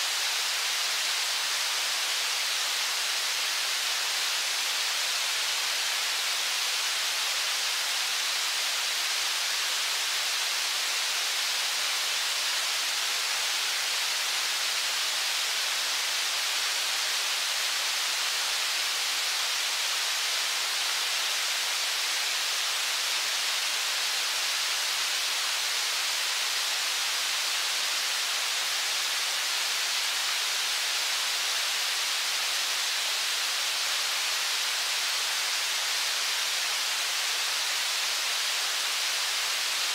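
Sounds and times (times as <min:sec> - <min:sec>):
river water rushing over rapids: 0:00.0 - 0:39.9.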